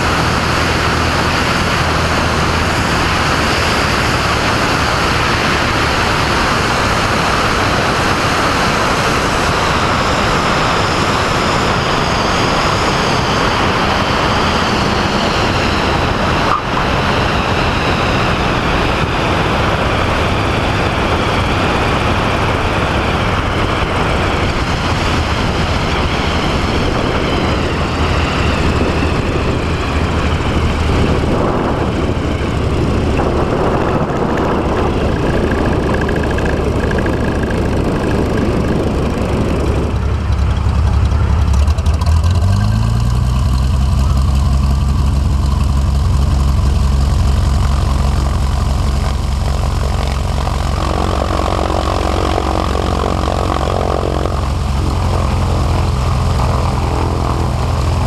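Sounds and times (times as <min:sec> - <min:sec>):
light aircraft engine and propeller: 0:00.0 - 0:58.0
wind rush over microphone: 0:00.0 - 0:58.0.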